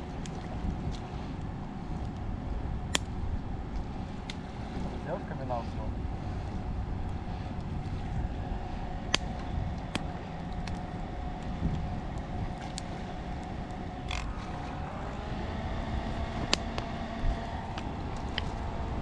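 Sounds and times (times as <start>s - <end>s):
distant motor hum: 0.0s - 19.0s
low rumble: 0.0s - 19.0s.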